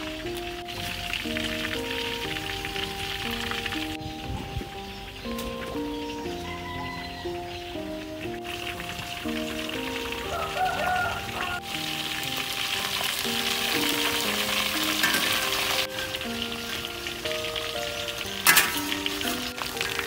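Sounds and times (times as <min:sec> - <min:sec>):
fish sizzling in hot oil: 0:00.0 - 0:04.2, 0:07.7 - 0:20.0.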